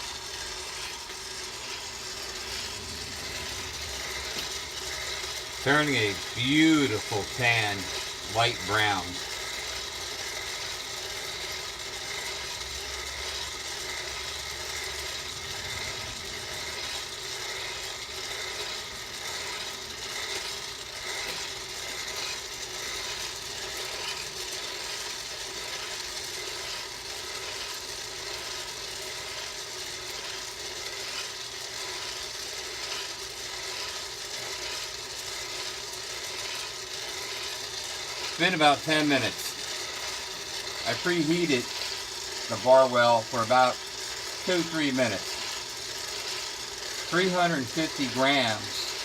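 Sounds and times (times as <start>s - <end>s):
coffee beans rattling: 0.0s - 49.0s
coffee roaster motor humming: 0.0s - 49.0s.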